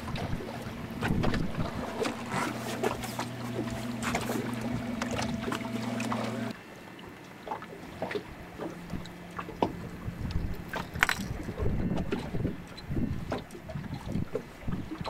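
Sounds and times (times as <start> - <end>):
boat motor humming: 0.0 - 15.0
water splashing against hull: 0.0 - 15.0.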